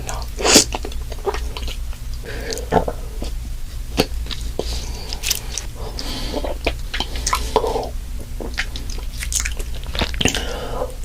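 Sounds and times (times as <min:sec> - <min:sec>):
low hum: 0:00.0 - 0:11.0
stomach gurgling: 0:00.0 - 0:11.0.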